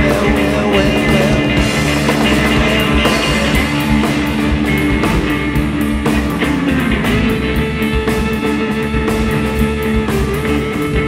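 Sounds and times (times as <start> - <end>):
live rock music: 0.0 - 11.0.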